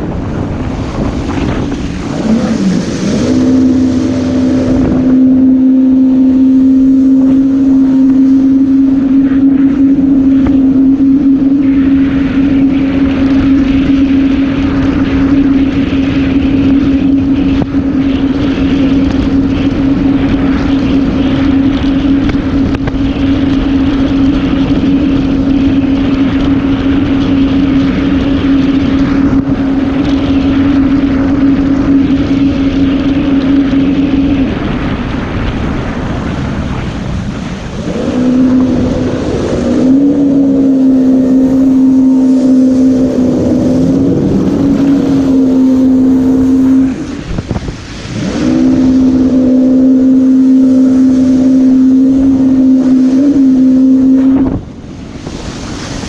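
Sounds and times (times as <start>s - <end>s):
personal watercraft engine running: 0.0s - 56.0s
wind on microphone: 0.0s - 56.0s.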